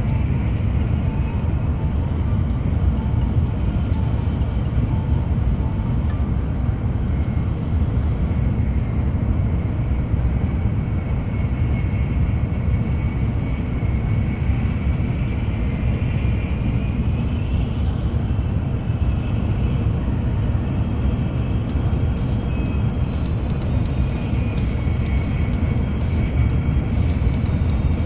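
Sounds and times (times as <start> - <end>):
faint high whine: 0.0 - 28.0
low rumble of train running: 0.0 - 28.0.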